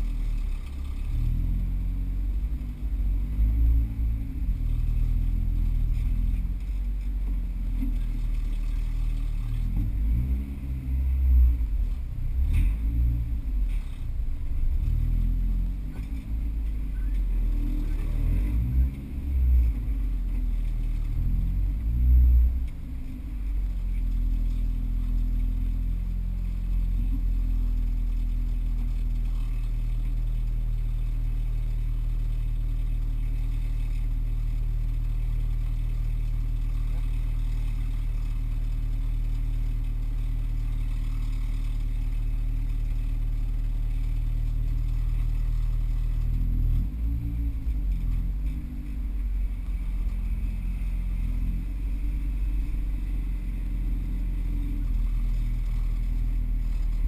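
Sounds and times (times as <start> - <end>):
car engine revving at low speed: 0.0 - 57.0.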